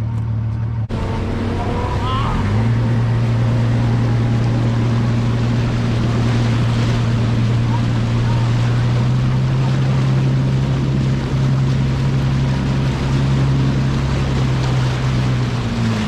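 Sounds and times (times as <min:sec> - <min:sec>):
outboard motor running: 0:00.0 - 0:16.0
wind and water rushing: 0:00.9 - 0:16.0.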